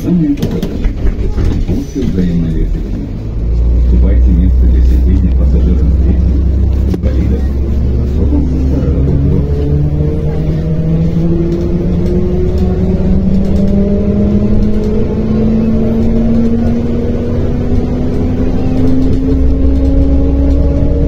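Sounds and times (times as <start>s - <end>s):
bus engine accelerating: 0.0s - 21.0s
low rumble: 0.8s - 21.0s.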